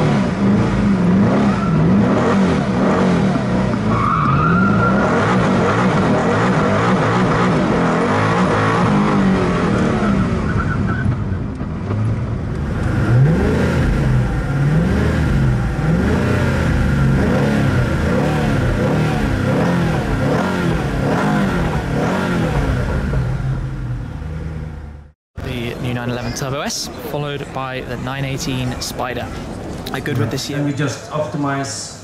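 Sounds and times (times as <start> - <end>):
car engine revving: 0.0 - 30.4.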